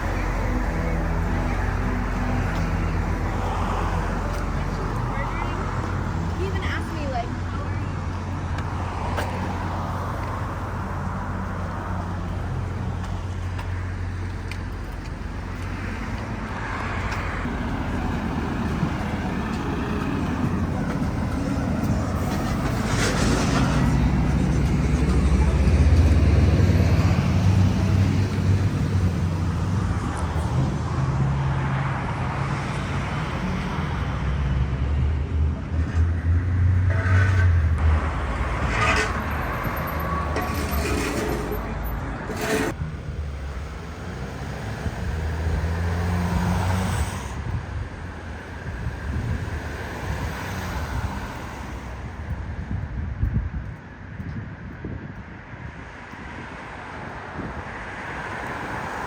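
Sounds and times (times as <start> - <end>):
cars passing with low rumble: 0.0 - 59.0.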